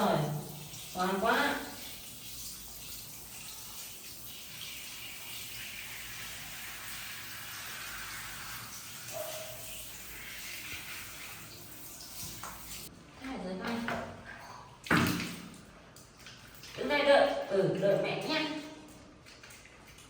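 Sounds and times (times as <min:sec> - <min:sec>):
water running from tap: 0:00.0 - 0:12.9, 0:14.8 - 0:20.0.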